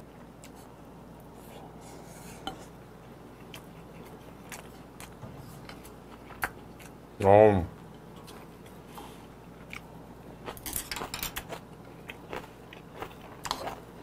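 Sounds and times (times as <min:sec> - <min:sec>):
soft chewing: 0:00.1 - 0:14.0.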